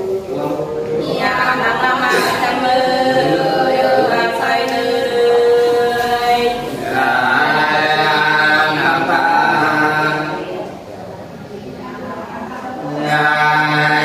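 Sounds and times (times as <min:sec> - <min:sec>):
person singing unaccompanied: 0:00.0 - 0:10.7, 0:12.3 - 0:14.0.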